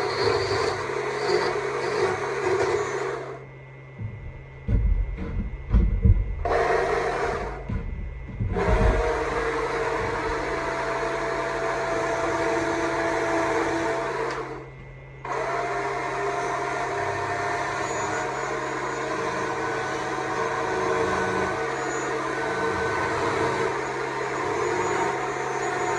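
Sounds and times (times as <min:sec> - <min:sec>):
electric chainsaw running: 0:00.0 - 0:05.8, 0:06.4 - 0:07.9, 0:08.5 - 0:25.9.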